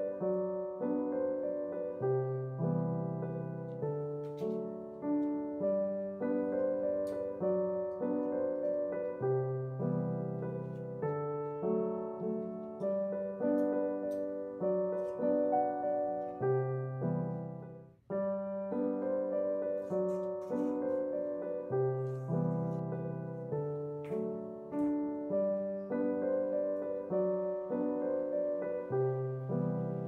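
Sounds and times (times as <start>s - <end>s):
slow solo piano melody: 0.0s - 30.0s.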